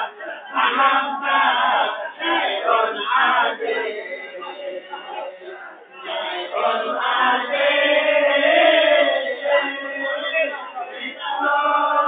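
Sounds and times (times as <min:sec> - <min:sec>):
men chanting together: 0:00.0 - 0:04.7, 0:06.0 - 0:12.0.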